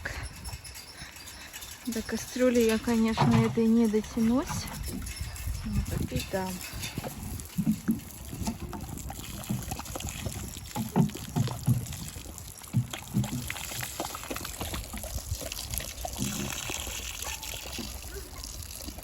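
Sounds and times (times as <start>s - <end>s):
water sloshing and pouring: 1.9s - 19.0s.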